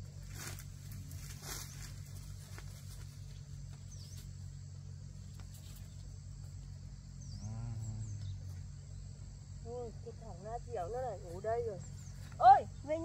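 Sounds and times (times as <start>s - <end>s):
high insect drone: 0.0s - 13.0s
low steady hum: 0.0s - 13.0s.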